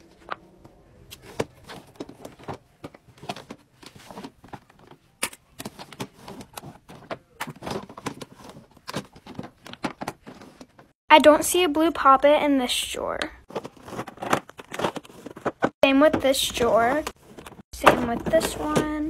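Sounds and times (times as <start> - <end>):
plastic drawers sliding open and shut: 1.1 - 11.0, 13.4 - 19.0.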